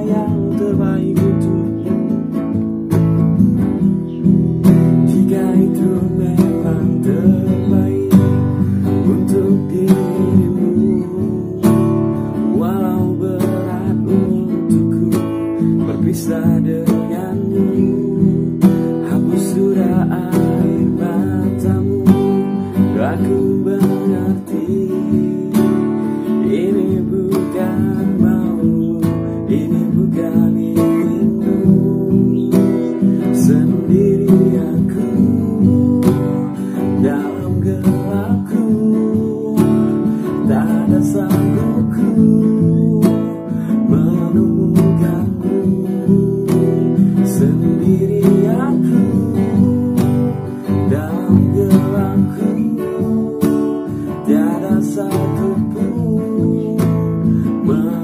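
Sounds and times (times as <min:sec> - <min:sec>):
acoustic guitar strumming: 0:00.0 - 0:58.0
man singing pop song: 0:00.0 - 0:58.0.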